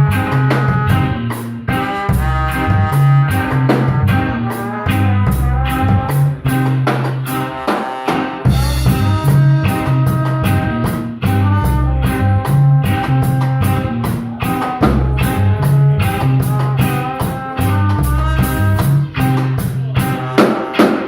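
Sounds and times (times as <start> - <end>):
drum kit beat: 0.0 - 21.0
guitar lines: 0.0 - 21.0
instrumental rock band playing: 0.0 - 21.0.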